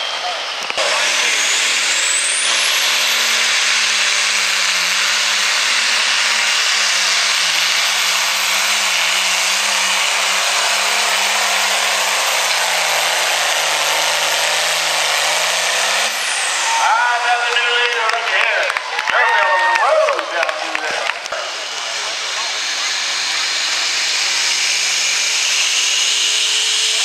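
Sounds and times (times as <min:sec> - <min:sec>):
diesel engine under heavy load: 0:00.0 - 0:27.0
high turbo whine: 0:00.0 - 0:27.0.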